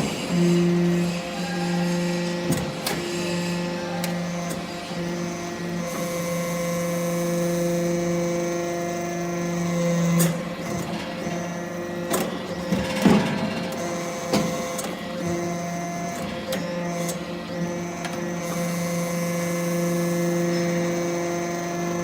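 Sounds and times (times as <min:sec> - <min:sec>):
hydraulic power unit humming: 0:00.0 - 0:22.0.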